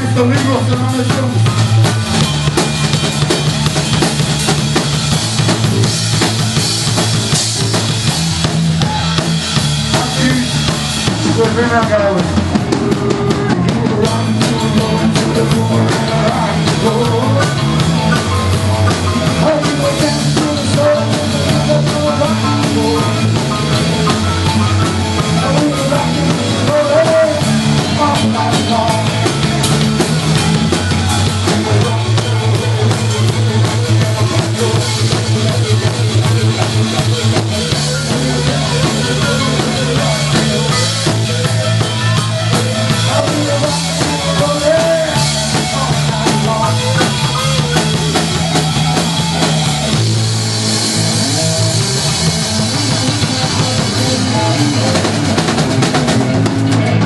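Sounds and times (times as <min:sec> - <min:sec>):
bass guitar line: 0:00.0 - 0:57.0
live rock band: 0:00.0 - 0:57.0.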